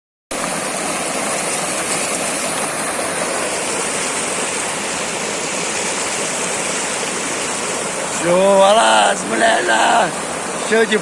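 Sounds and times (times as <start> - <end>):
running water rushing: 0.3 - 11.0.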